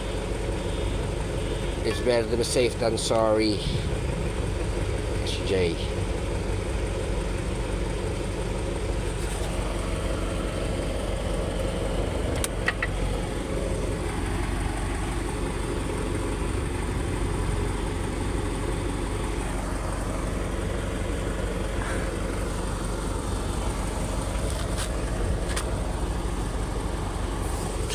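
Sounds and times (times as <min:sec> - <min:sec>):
engine idling: 0:00.0 - 0:27.9.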